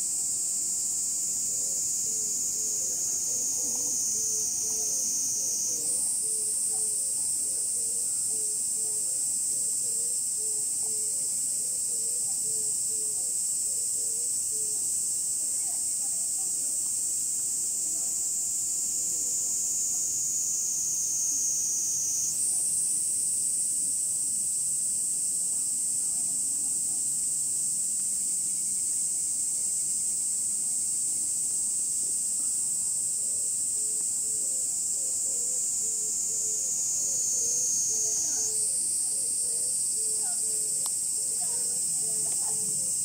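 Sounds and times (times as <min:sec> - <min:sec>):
cicadas buzzing: 0:00.0 - 0:43.0.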